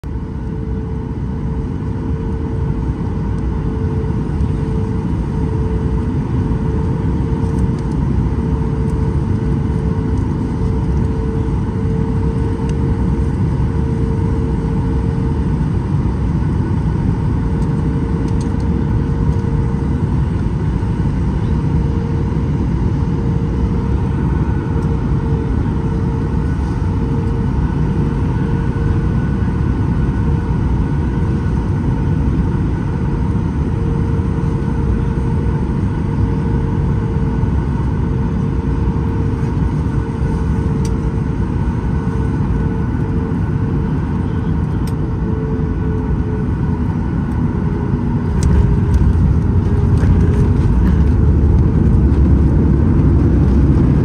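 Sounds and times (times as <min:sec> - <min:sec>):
airplane cabin engine rush: 0:00.0 - 0:54.0
steady droning tone: 0:00.0 - 0:54.0.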